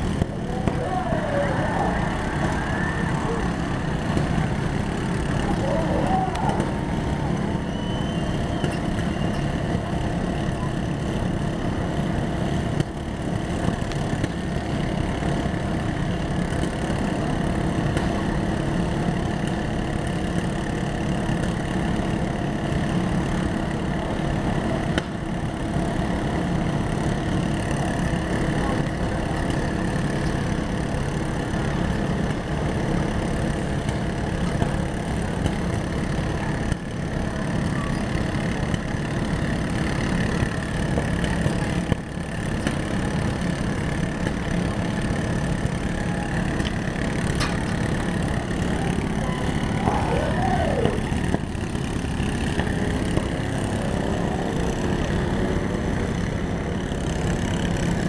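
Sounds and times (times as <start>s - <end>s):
lawn mower engines idling: 0.0s - 58.0s.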